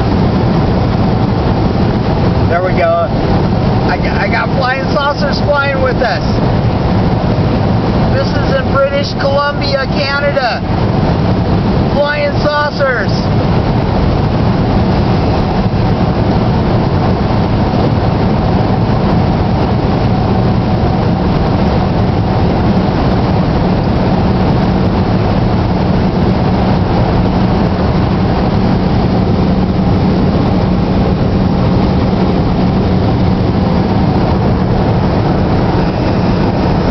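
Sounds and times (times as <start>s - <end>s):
road and engine noise in vehicle: 0.0s - 36.9s.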